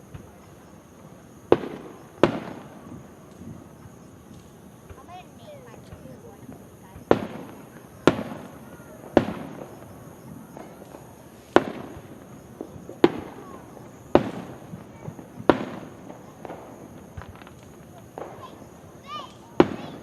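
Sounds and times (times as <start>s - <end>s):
firework shells bursting: 0.0s - 20.0s
small firework pops: 0.0s - 20.0s.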